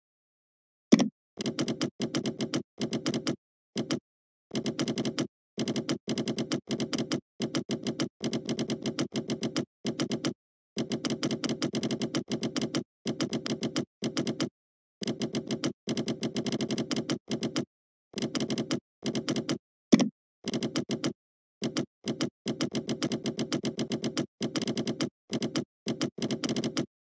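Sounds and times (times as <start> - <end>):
computer keyboard typing: 0.9 - 26.9.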